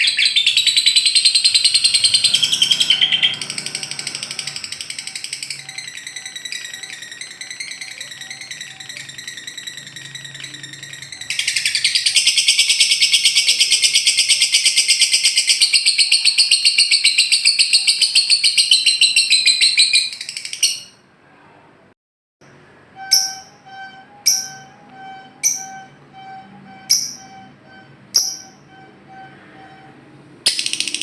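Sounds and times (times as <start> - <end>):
lovebird chattering trill: 0.0 - 20.9, 25.4 - 29.3, 30.5 - 31.0.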